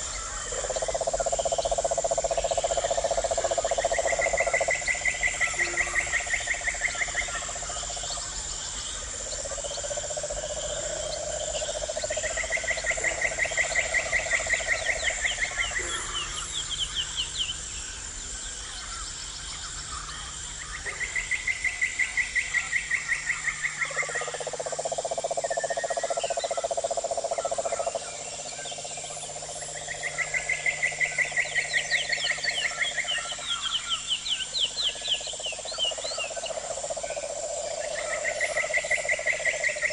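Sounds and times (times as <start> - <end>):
frogs pulsed trills: 0.0 - 39.9
high insect drone: 0.0 - 39.9.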